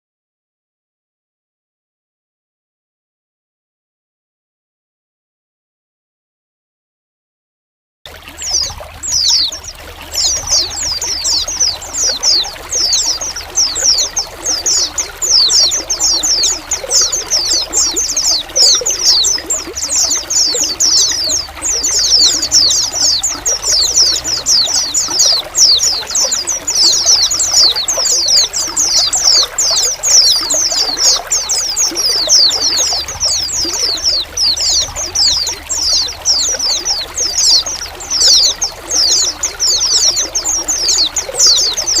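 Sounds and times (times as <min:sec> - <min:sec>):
flock of birds calling: 0:08.1 - 0:42.0
trickle of running water: 0:08.1 - 0:42.0.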